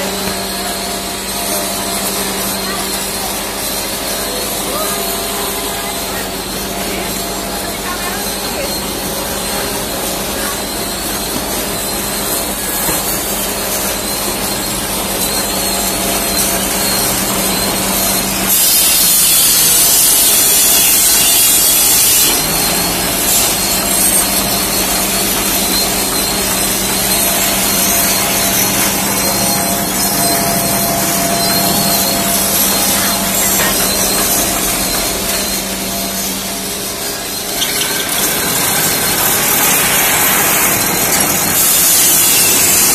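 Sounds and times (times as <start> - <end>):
machine motor hum: 0.0 - 42.9.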